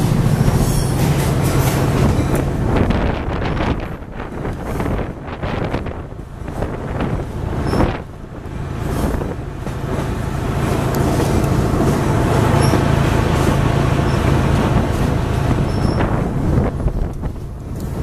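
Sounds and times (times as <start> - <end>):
train rumbling on rails: 0.0 - 18.0
wind buffeting microphone: 0.0 - 18.0.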